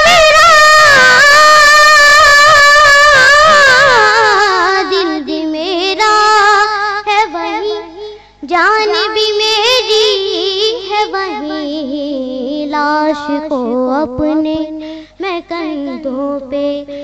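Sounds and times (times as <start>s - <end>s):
boy singing devotional song: 0.0s - 17.0s.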